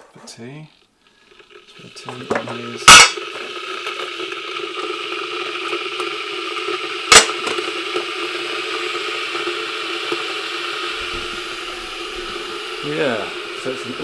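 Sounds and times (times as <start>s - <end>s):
electric kettle hissing: 0.4s - 14.0s.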